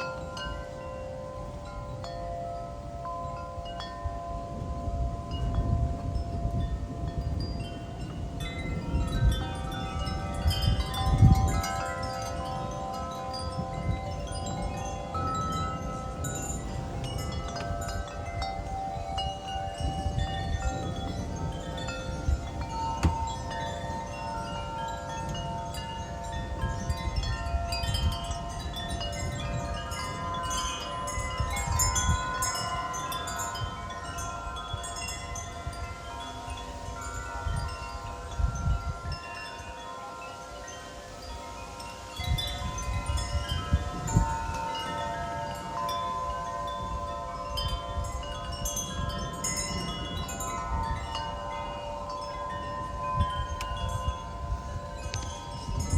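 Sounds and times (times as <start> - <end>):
metal wind chimes ringing: 0.0 - 55.9
wind rumbling on microphone: 0.0 - 55.9.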